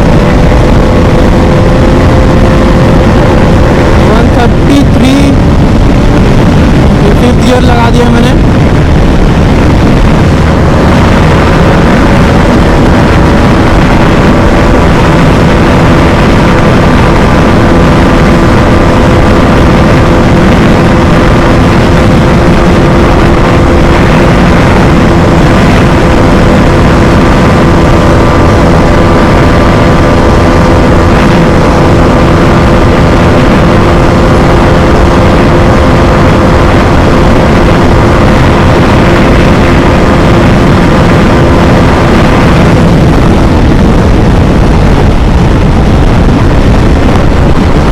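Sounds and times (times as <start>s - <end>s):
motorcycle engine at high revs: 0.0s - 47.9s
wind rush on microphone: 0.0s - 47.9s.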